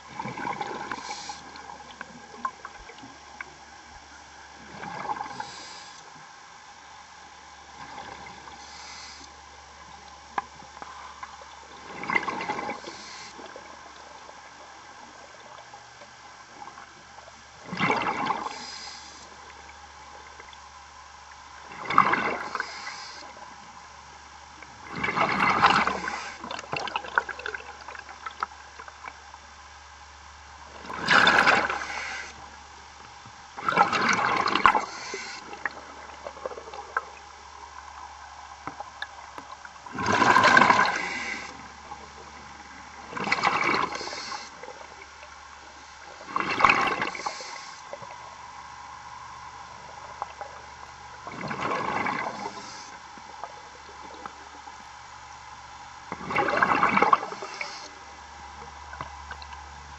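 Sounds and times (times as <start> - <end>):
faint steady hum: 0.0 - 59.9
underwater air bubbling: 0.0 - 59.9.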